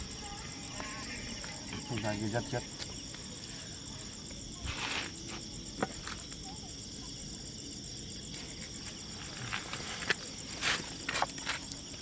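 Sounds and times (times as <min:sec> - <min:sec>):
insects chirping in trills: 0:00.0 - 0:12.0.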